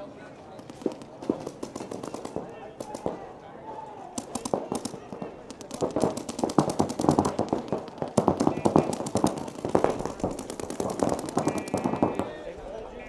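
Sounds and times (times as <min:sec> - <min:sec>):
paintball markers firing: 0:00.0 - 0:12.5.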